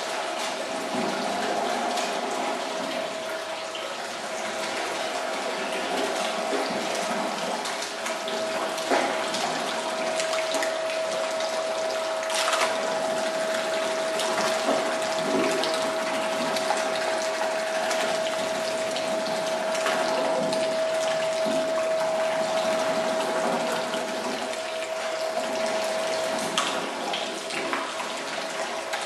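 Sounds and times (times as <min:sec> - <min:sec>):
water pouring and splashing: 0:00.0 - 0:29.0.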